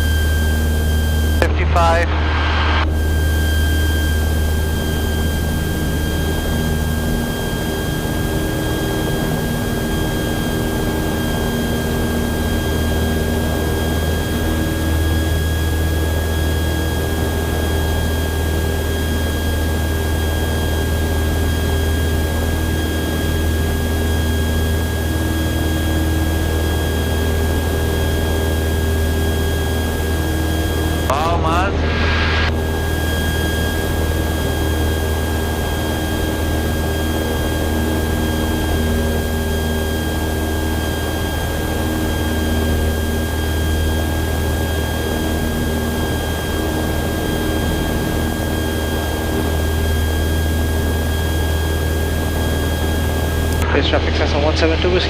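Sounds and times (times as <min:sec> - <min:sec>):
high engine whine: 0:00.0 - 0:55.0
propeller plane engine drone: 0:00.0 - 0:55.0.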